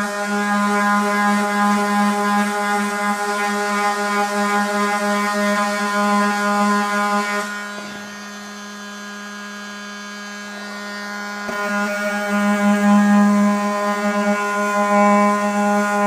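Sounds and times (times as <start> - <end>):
oscillating sander buzzing: 0.0 - 16.0.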